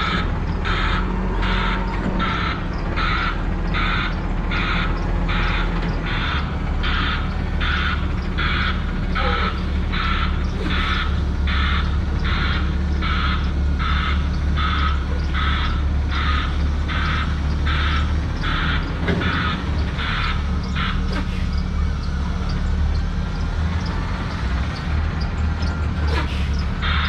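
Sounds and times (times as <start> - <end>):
diesel engine humming: 0.0 - 27.0
truck reversing alarm beeping: 0.0 - 27.0.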